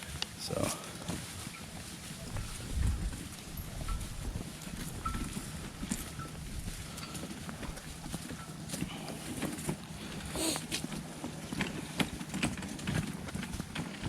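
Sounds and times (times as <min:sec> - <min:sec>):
footsteps on dirt trail: 0:00.1 - 0:14.0.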